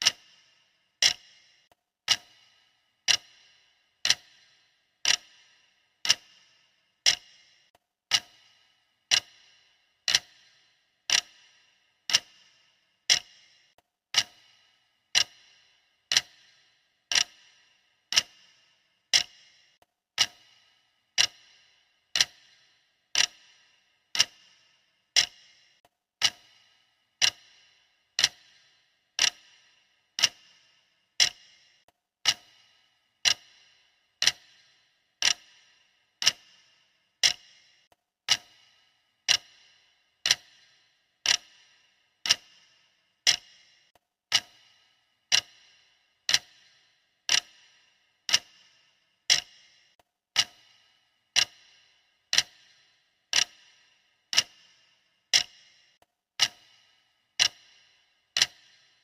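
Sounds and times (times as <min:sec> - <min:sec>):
clock ticking: 0:00.0 - 0:59.0.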